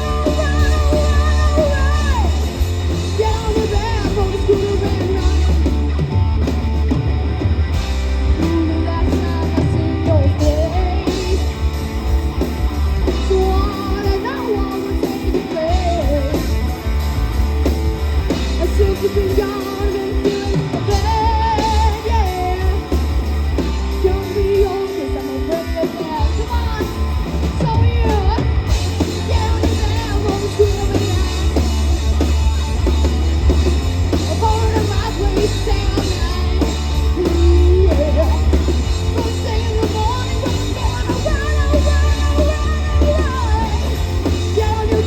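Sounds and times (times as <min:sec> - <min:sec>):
person singing: 0:00.0 - 0:05.8, 0:08.1 - 0:11.9, 0:13.0 - 0:16.7, 0:18.4 - 0:45.0
rock band playing: 0:00.0 - 0:45.0.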